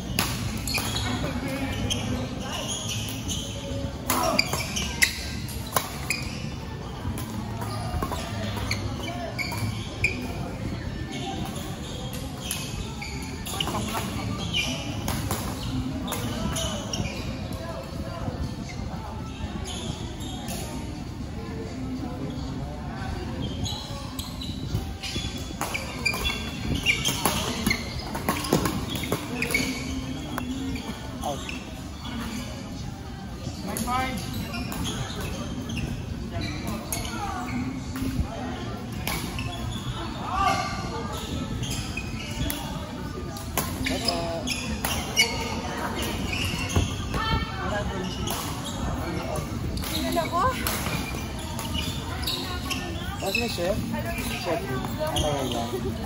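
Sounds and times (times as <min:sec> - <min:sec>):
shoes squeaking on court: 0:00.0 - 0:21.0, 0:21.6 - 0:56.0.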